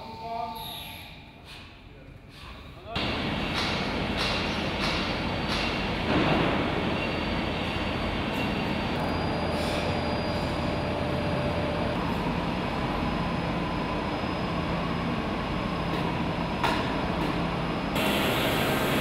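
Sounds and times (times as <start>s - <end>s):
factory machinery hum: 0.0s - 19.0s.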